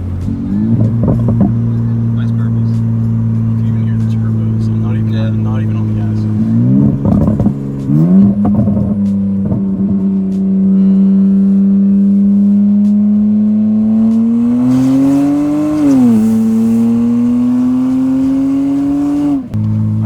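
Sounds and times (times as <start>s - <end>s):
exhaust pops: 0.0s - 10.8s, 11.8s - 20.0s
loud car engine revving: 0.0s - 20.0s.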